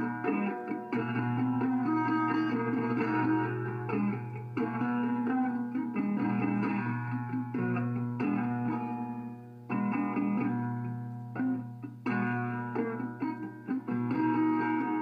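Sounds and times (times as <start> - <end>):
plucked guitar notes: 0.0 - 15.0.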